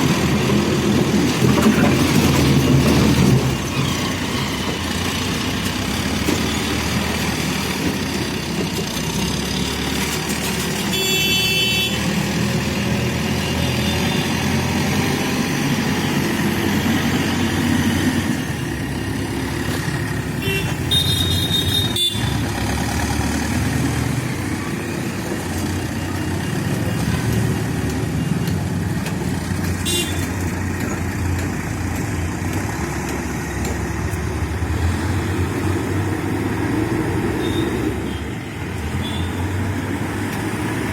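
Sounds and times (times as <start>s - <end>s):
backhoe diesel engine rumbling: 0.0s - 40.9s.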